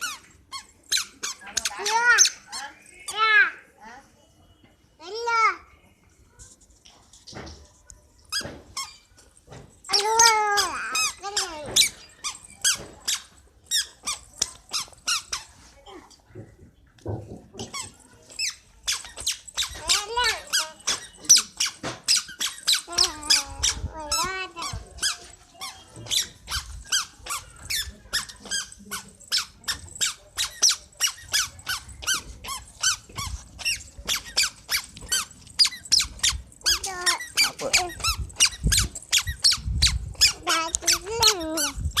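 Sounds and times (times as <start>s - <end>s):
squeaky shoes squeaking: 0.0s - 3.4s, 6.4s - 15.8s, 17.4s - 42.0s.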